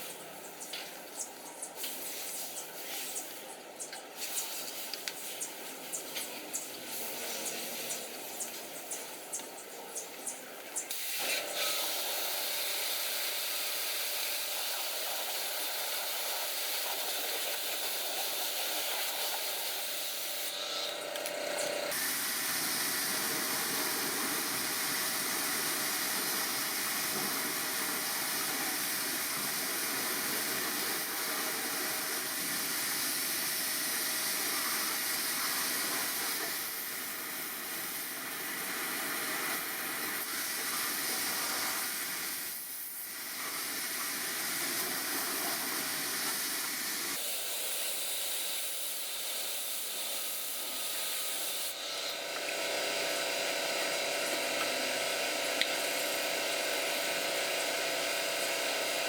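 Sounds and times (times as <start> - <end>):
high-pressure spray hissing: 10.8 - 59.0.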